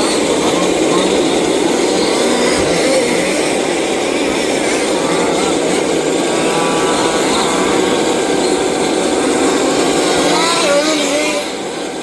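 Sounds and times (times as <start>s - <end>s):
rc car engines racing: 0.0s - 12.0s.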